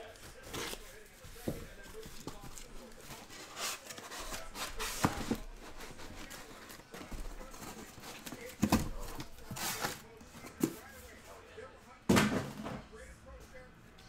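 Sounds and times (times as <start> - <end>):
cardboard rustling and scraping: 0.0 - 11.3.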